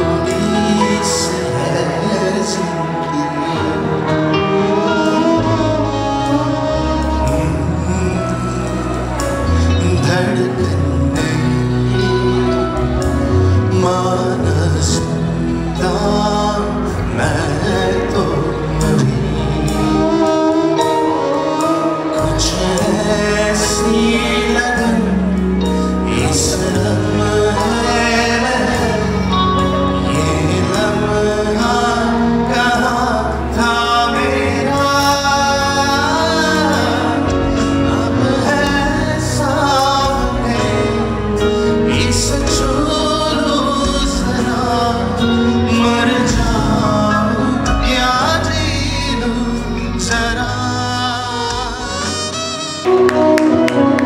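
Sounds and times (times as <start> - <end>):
instrumental backing music: 0.0 - 54.0
man singing into a microphone: 0.0 - 54.0.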